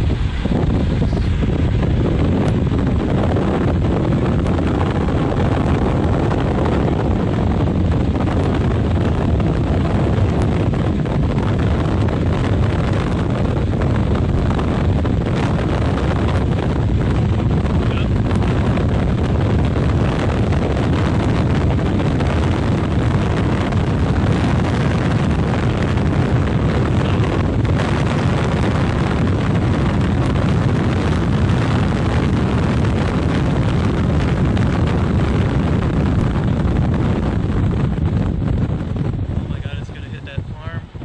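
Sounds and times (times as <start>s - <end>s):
car driving noise: 0.0s - 41.0s
wind buffeting the microphone: 0.0s - 41.0s.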